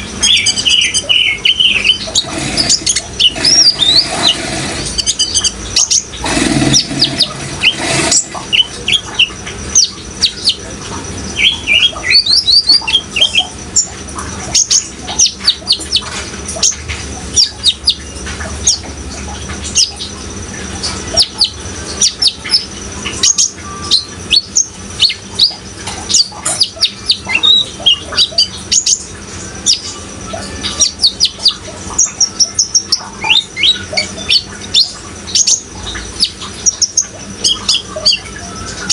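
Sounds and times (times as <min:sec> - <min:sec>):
flowing water: 0:01.7 - 0:38.9.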